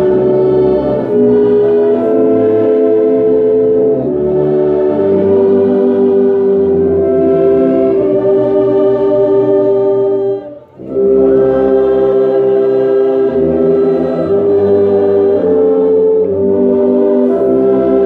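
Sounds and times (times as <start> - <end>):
choir singing a hymn: 0.0 - 18.0
french horn playing: 0.0 - 18.0
orchestra: 0.0 - 18.0.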